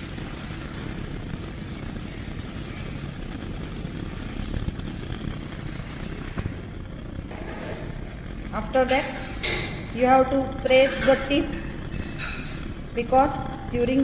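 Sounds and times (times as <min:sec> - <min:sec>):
gas burner flame rushing: 0:00.0 - 0:14.0.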